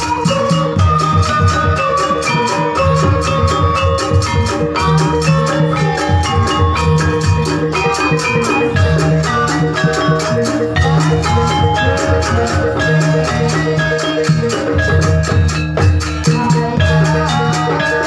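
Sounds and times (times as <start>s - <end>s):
low drum beats: 0.0s - 18.0s
metal-keyed percussion notes: 0.0s - 18.0s.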